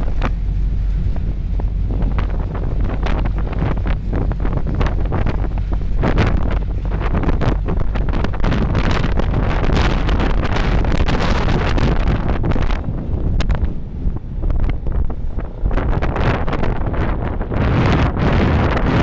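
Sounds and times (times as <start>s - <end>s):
wind gusting across microphone: 0.0s - 19.0s.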